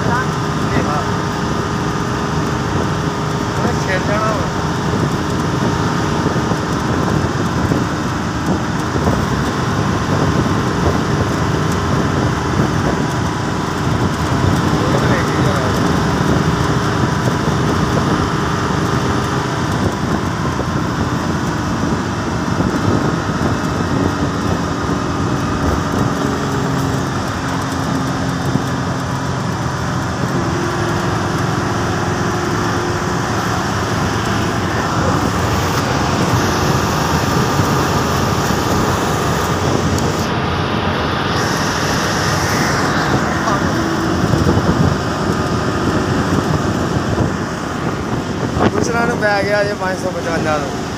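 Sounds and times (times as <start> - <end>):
bus engine and road drone: 0.0 - 50.9.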